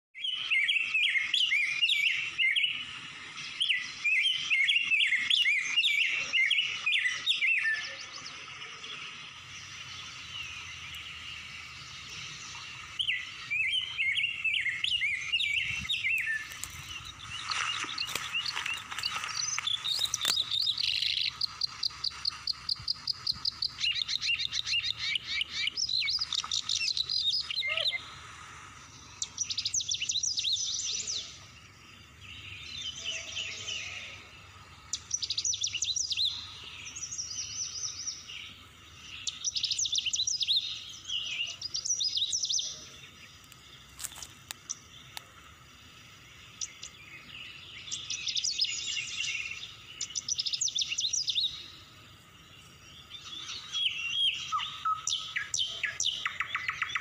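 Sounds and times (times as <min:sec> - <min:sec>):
birds chirping: 0:00.2 - 0:57.0.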